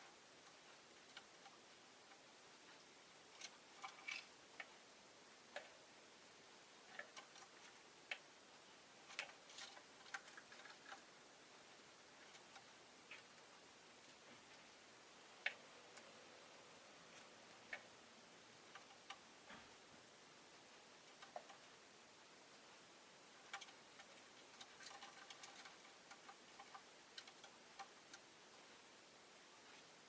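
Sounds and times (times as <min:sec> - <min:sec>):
low hiss: 0:00.0 - 0:30.0.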